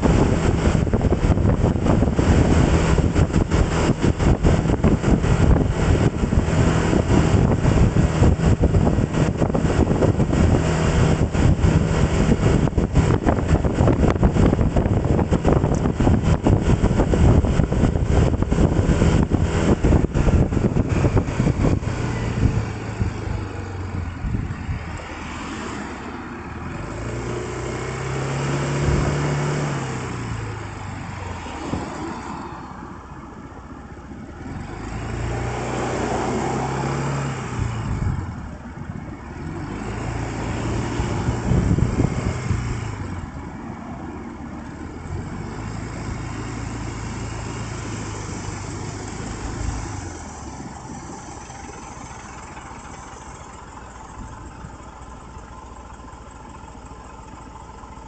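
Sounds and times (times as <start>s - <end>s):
wind buffeting microphone: 0.0s - 54.9s
vehicle engine accelerating: 0.0s - 58.0s.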